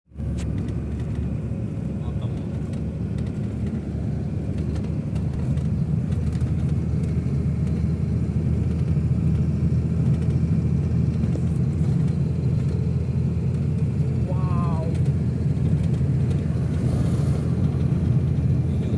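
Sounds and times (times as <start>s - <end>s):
vehicle engine and road rumble: 0.1s - 18.9s.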